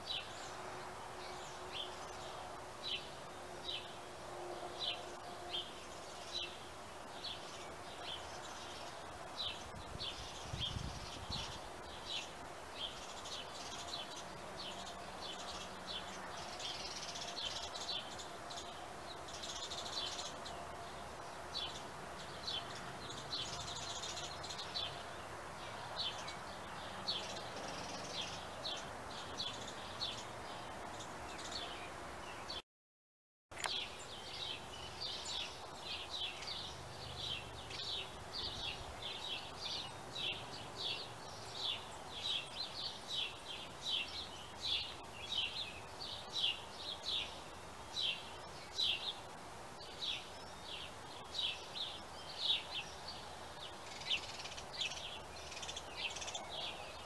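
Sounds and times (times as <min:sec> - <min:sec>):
small birds chirping: 0:00.0 - 0:04.0, 0:04.7 - 0:32.6, 0:33.6 - 0:57.0
faint background hiss: 0:00.0 - 0:32.6, 0:33.6 - 0:57.0.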